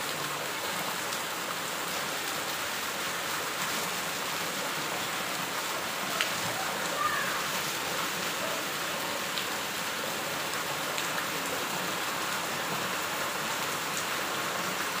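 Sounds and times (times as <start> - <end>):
heavy rain on concrete: 0.0 - 15.0.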